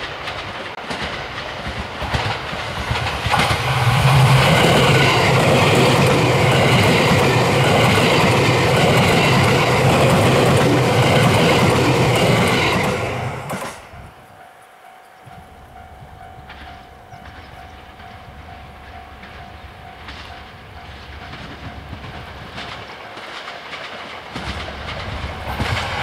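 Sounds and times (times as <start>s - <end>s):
train wheels clattering over rail joints: 0.0s - 14.0s, 16.2s - 26.0s
train running hum: 0.0s - 26.0s.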